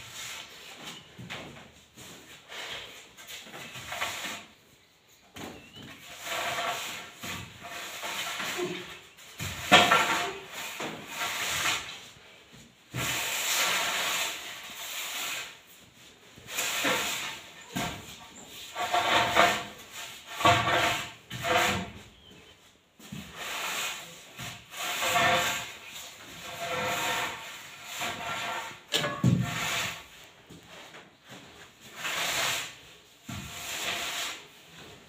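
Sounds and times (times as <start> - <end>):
straightedge scraping screed floor: 0.0 - 4.8, 5.4 - 35.0.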